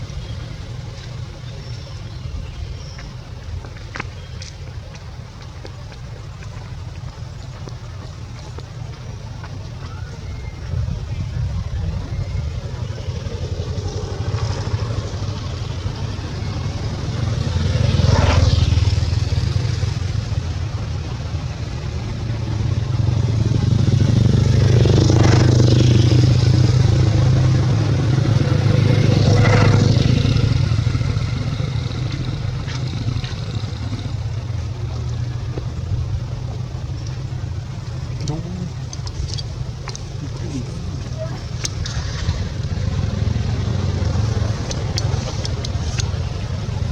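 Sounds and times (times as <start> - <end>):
passing road vehicles hum: 0.0 - 46.9.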